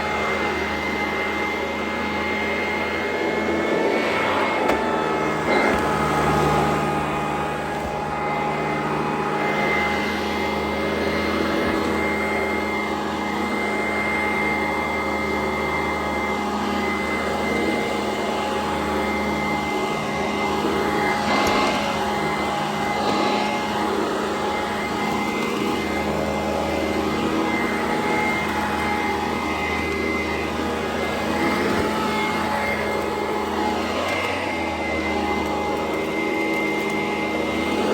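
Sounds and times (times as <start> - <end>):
upright vacuum cleaner running: 0.0 - 37.9.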